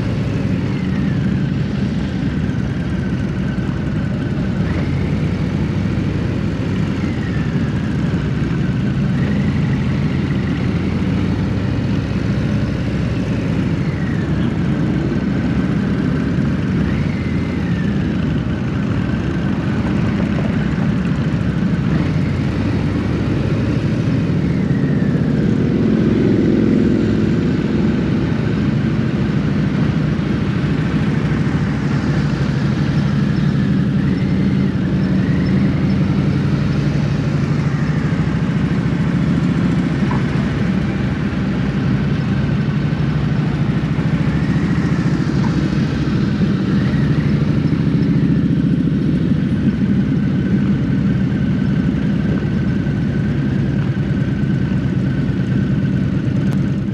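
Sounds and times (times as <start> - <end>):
motorcycle engine running: 0.0 - 56.9
road and wind noise: 0.0 - 56.9.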